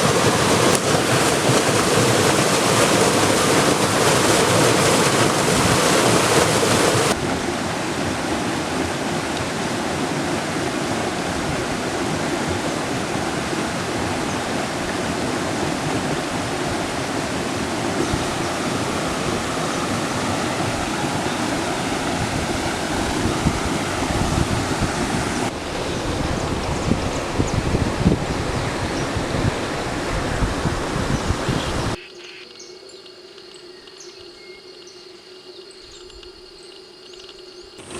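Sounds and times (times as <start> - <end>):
water rushing: 0.0 - 32.0
wind buffeting the microphone: 0.0 - 32.0.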